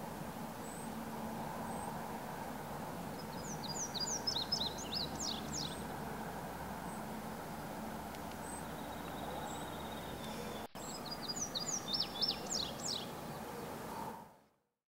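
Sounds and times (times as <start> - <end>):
songbird singing: 0.0 - 14.2
outdoor background hiss: 0.0 - 14.6.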